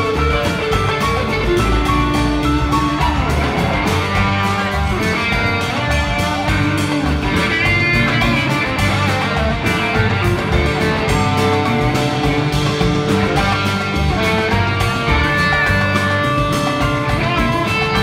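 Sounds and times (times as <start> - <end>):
lead electric guitar bending notes: 0.0 - 18.0
steady drum beat: 0.0 - 18.0.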